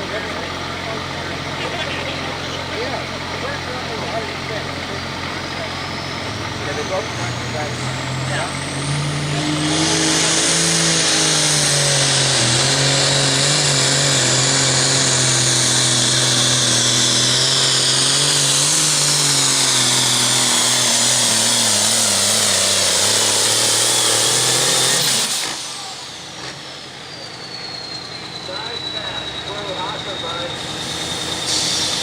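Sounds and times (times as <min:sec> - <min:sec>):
high turbo whine: 0:00.0 - 0:32.0
loud tractor engine: 0:00.0 - 0:32.0.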